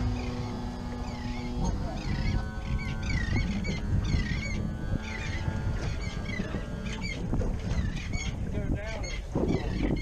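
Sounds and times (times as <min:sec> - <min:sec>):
gulls calling: 0:00.0 - 0:10.0
low rumble of wind and water: 0:00.0 - 0:10.0.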